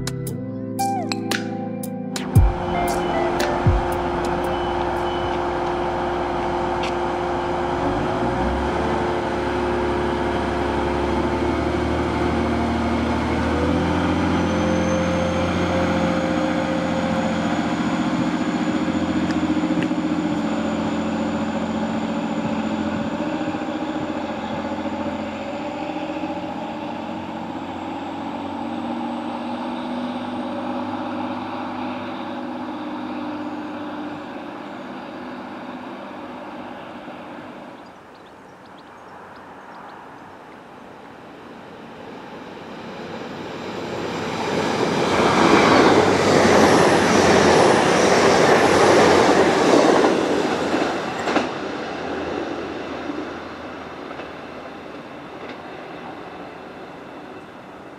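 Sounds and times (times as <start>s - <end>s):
diesel train engine pulling away: 2.3s - 57.9s.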